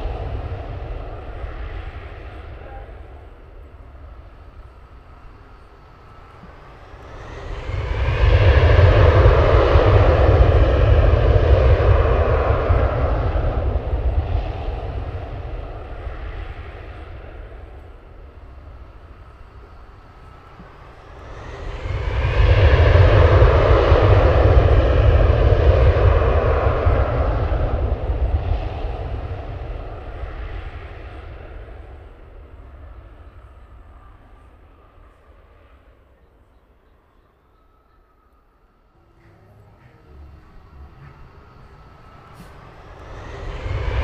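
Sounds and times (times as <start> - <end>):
jet engines passing overhead: 0.0 - 44.0.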